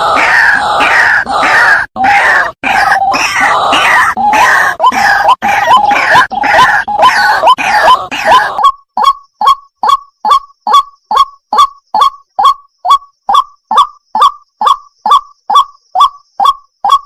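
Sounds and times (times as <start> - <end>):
waterhen croaking calls: 0.0 - 17.0.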